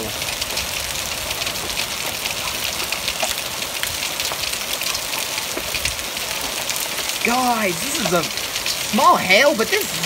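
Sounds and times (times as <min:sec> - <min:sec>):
hail pattering: 0:00.0 - 0:10.0.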